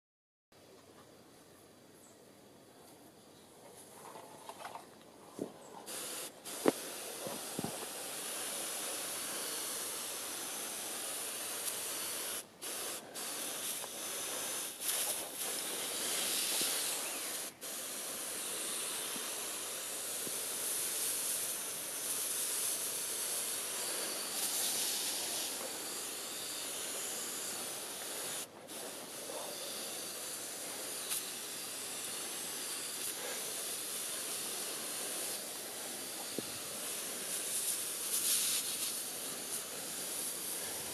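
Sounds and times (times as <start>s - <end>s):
sprayer wand hissing: 5.4s - 40.9s.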